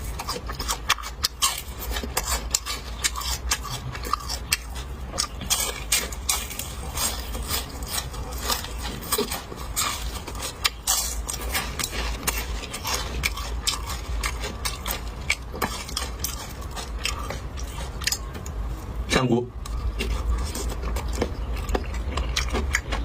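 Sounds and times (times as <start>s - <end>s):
chewing crunchy fried fish: 0.0s - 23.0s
low steady hum: 0.0s - 23.0s.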